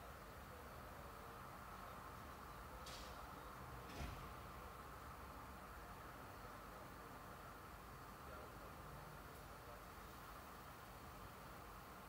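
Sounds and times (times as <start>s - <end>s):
distant city traffic hum: 0.0s - 12.0s.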